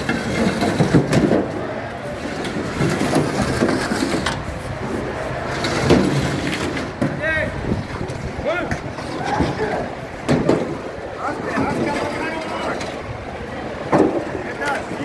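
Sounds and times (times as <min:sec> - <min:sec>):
chatter of voices: 0:01.4 - 0:15.0.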